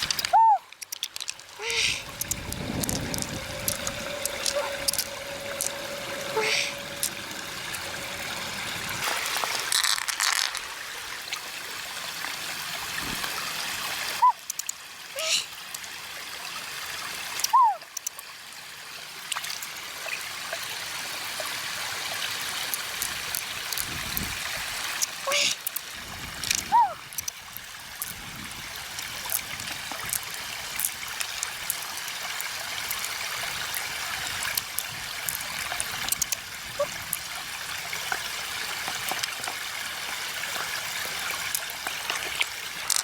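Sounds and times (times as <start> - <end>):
water trickling: 0.0 - 43.0.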